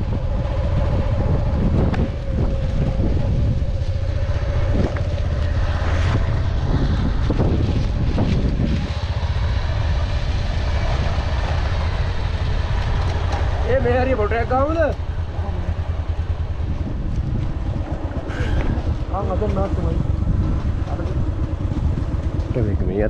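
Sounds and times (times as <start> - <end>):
low rumble: 0.0 - 23.0
wind buffeting microphone: 0.0 - 23.0.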